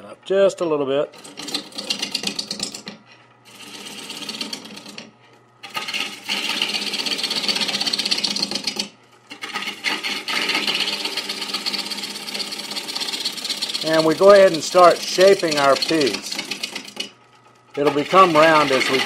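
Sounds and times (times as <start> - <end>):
lathe gouge rattling on wood: 1.2 - 19.0.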